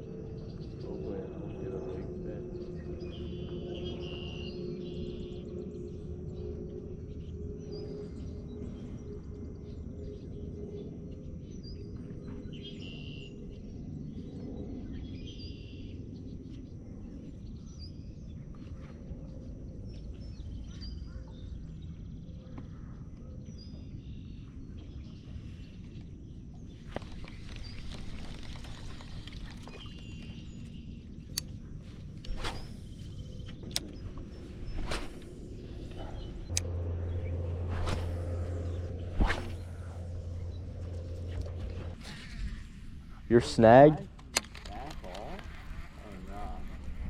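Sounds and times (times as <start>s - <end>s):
birds chirping: 0.0s - 47.0s
low outdoor rumble: 0.0s - 47.0s.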